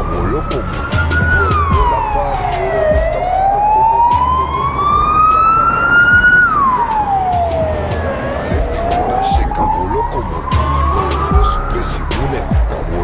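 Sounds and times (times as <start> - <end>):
wailing siren: 0.0 - 13.0.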